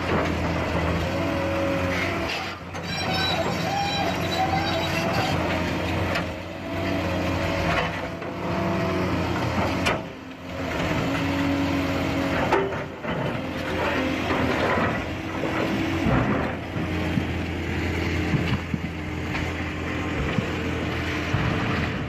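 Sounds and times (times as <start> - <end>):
heavy vehicle engine running: 0.0 - 22.0.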